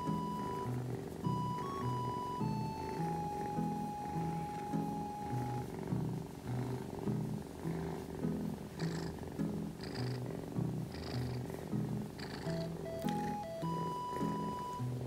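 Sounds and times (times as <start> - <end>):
gentle background music: 0.0 - 15.0
kitten purring: 0.0 - 15.0.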